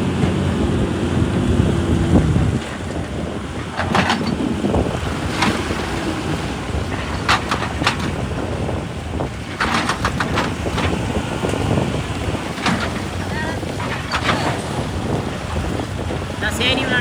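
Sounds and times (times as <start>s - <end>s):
heavy earthmoving machinery running: 0.0s - 17.0s.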